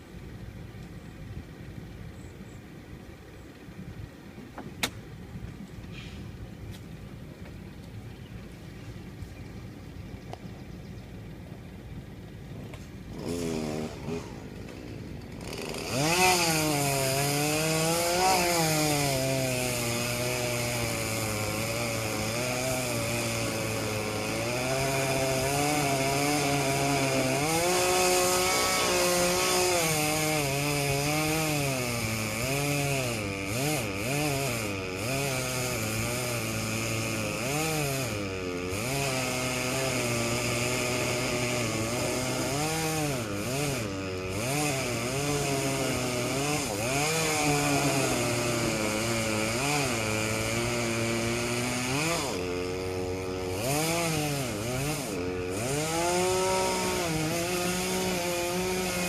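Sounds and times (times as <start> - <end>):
chainsaw revving and cutting: 11.2 - 59.0.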